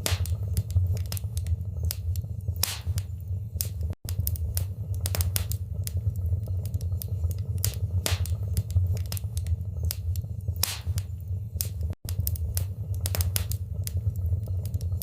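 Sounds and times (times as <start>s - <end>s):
fire pops and snaps: 0.0s - 15.0s
low rumble of flames: 0.0s - 15.0s.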